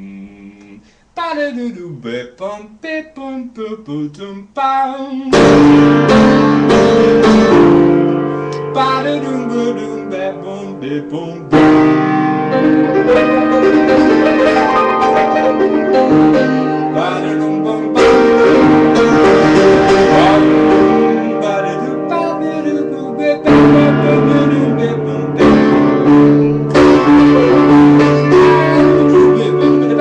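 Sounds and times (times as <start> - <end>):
low bass piano notes: 5.3 - 30.0
piano chords: 5.3 - 30.0.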